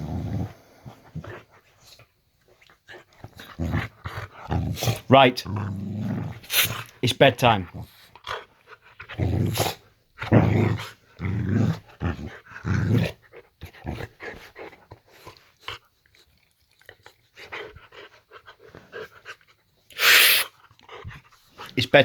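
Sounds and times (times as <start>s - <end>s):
dog growling: 0.0s - 1.5s, 2.8s - 19.3s.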